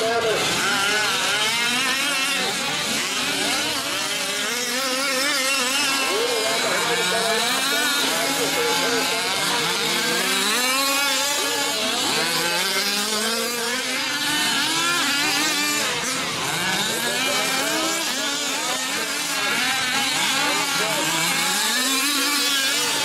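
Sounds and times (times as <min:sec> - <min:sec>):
small two-stroke engines buzzing: 0:00.0 - 0:23.0.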